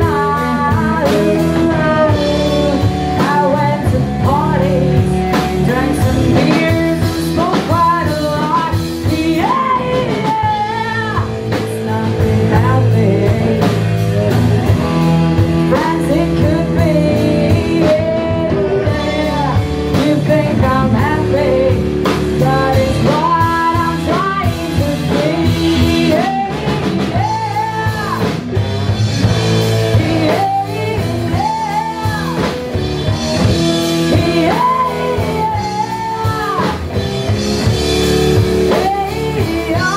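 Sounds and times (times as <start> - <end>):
bass guitar: 0.0 - 39.9
drum kit: 0.0 - 39.9
electric guitar: 0.0 - 39.9
woman singing: 0.0 - 39.9.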